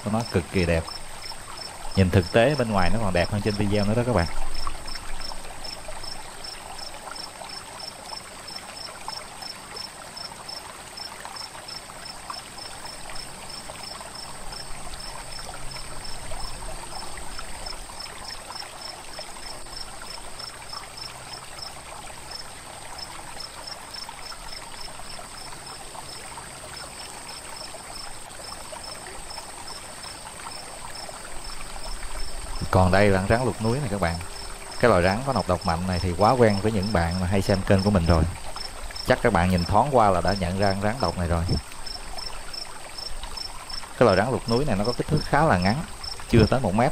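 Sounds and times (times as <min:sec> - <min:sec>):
cricket chirping: 0:00.0 - 0:46.9
steady hiss: 0:00.0 - 0:46.9.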